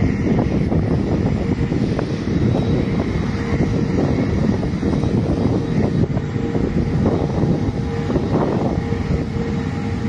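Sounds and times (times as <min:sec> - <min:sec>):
jet engines humming: 0:00.0 - 0:10.0
wind buffeting microphone: 0:00.0 - 0:10.0.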